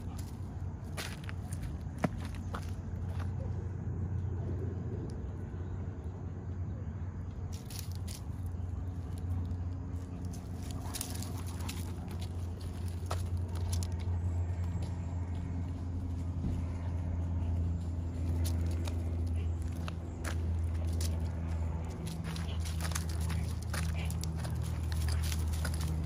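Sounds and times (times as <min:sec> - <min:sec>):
dry leaves and twigs crackling: 0:00.0 - 0:03.6, 0:07.4 - 0:26.0
steady low hum: 0:00.0 - 0:26.0.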